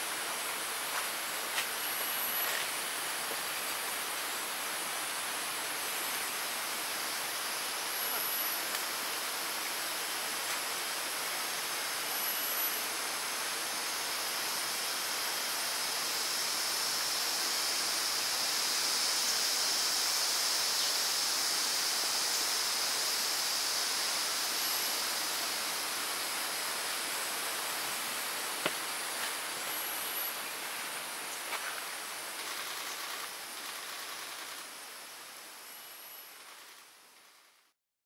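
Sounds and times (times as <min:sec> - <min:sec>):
even forest hiss: 0:00.0 - 0:37.8.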